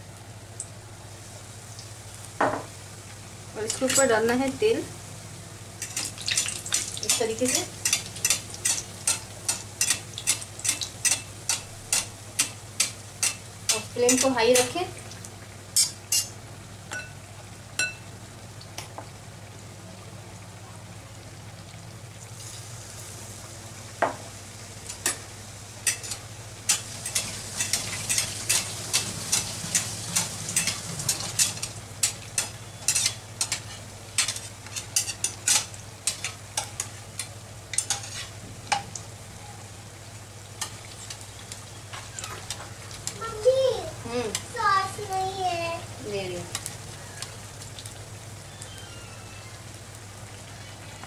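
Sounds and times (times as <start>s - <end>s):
oil sizzling deep-frying: 0.0s - 51.0s.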